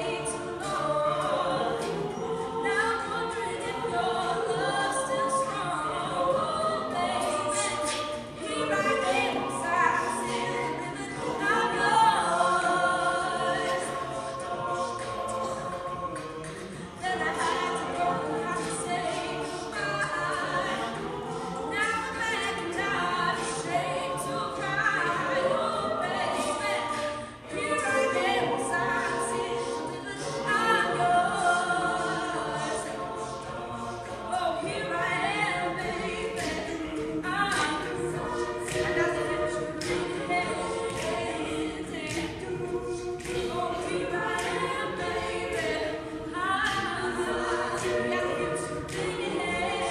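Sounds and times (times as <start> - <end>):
a cappella group singing: 0.0 - 49.9.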